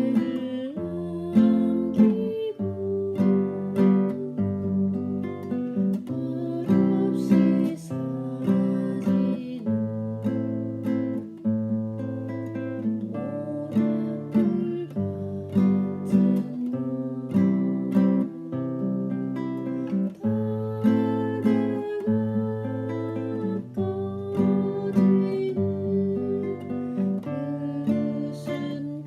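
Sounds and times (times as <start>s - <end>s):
acoustic guitar waltz: 0.0s - 29.0s.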